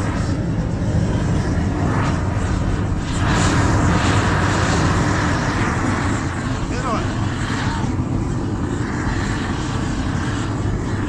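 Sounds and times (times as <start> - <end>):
blowtorch flame rushing: 0.0 - 11.0.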